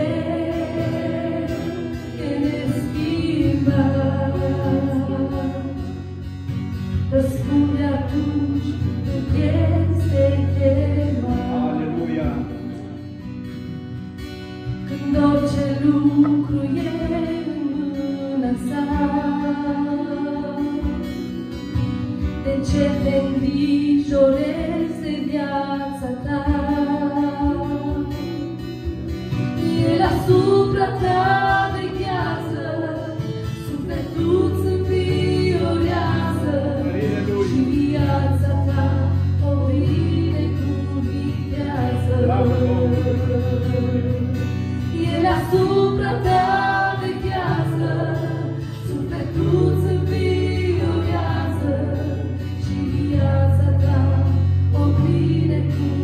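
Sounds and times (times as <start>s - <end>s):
women singing: 0.0s - 6.1s, 6.8s - 12.0s, 14.8s - 21.5s, 22.3s - 56.0s
strummed acoustic guitar: 0.0s - 56.0s.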